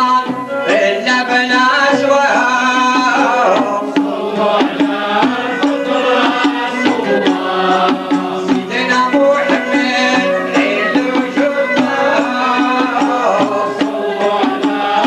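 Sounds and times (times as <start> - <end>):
voices singing: 0.0 - 15.0
hand drum strikes: 2.8 - 15.0.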